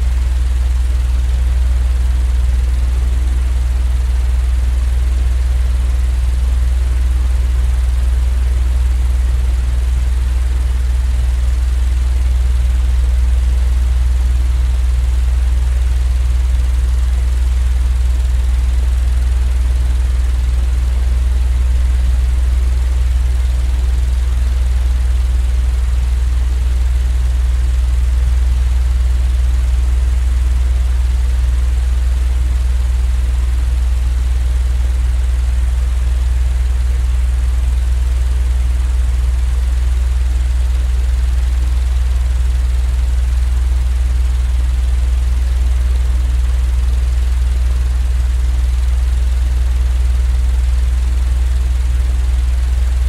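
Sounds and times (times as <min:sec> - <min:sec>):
deep white noise hum: 0:00.0 - 0:43.7, 0:51.2 - 0:53.0.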